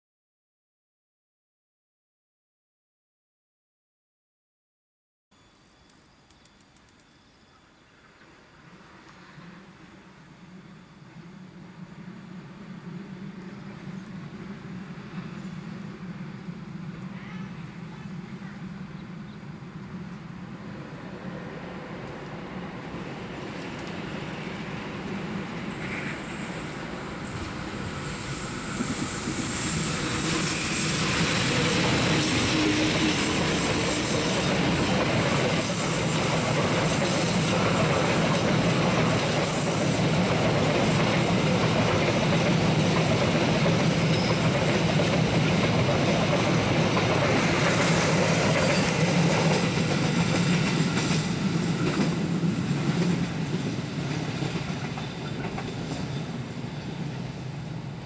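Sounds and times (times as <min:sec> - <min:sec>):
train wheels on rails: 0:08.2 - 0:58.0
locomotive engine drone: 0:08.6 - 0:58.0.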